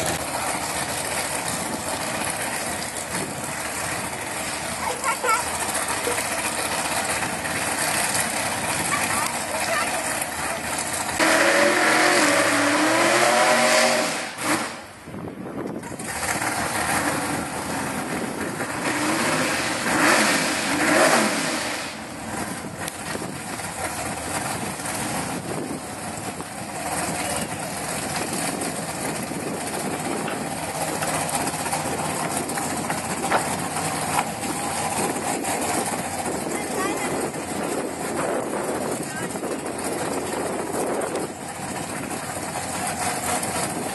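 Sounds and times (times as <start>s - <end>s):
drag car engine revving: 0.0s - 43.9s.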